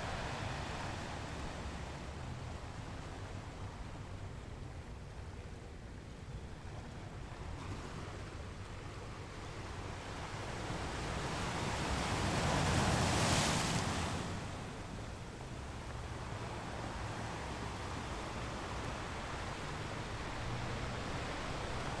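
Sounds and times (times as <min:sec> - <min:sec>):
ocean waves washing onto shore: 0:00.0 - 0:04.2, 0:08.2 - 0:22.0.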